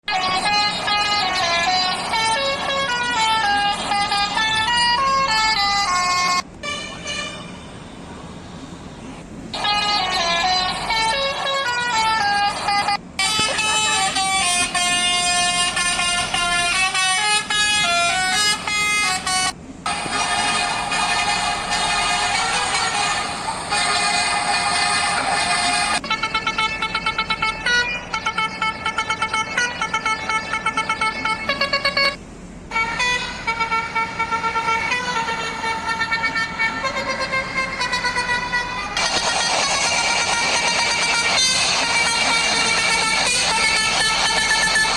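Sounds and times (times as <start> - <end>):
multi-note horn playing a tune: 0.1 - 8.0, 9.6 - 19.6, 25.9 - 44.9.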